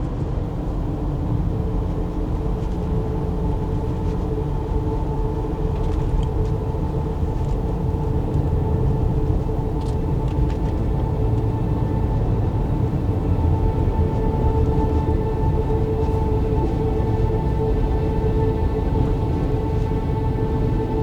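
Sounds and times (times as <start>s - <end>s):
road and engine rumble in car: 0.0s - 21.0s.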